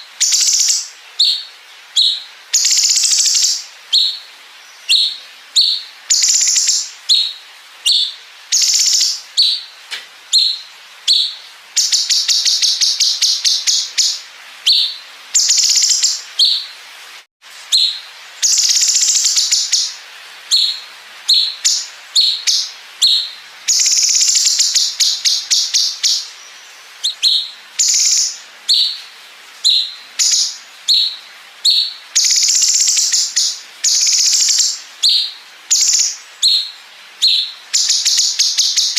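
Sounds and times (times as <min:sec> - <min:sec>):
bird singing with chirps and trills: 0:00.0 - 0:16.8, 0:17.7 - 0:38.9.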